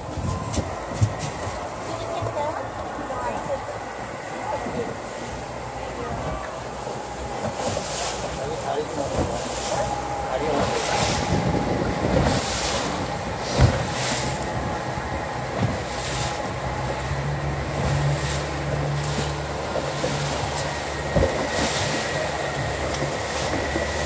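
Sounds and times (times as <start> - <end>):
boat motor running: 0.0 - 24.0
water slapping along hull: 0.0 - 24.0
wind buffeting microphone: 0.0 - 24.0.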